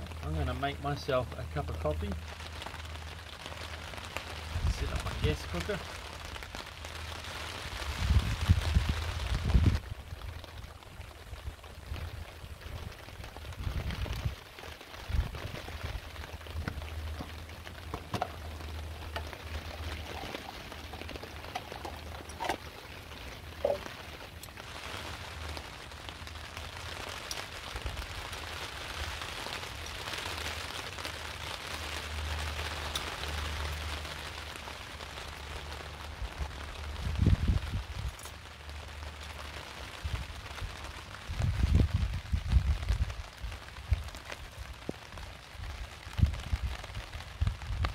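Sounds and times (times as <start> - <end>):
heavy rain on a tarp: 0.0 - 47.9.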